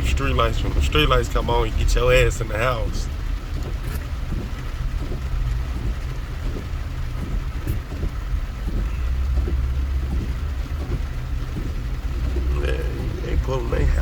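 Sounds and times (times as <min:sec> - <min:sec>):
car driving on wet road: 0:00.0 - 0:14.0.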